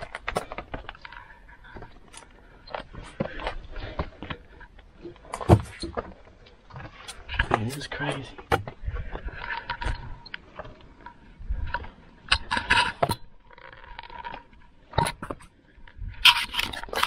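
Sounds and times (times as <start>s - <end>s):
footsteps scrambling over rocks: 0.0s - 15.5s.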